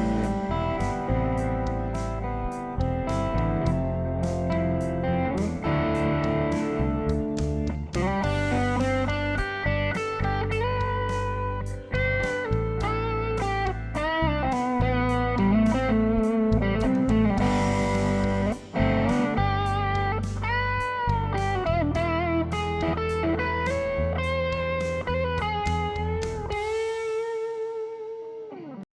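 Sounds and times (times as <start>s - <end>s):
bluesy electric guitar lead: 0.0s - 28.9s.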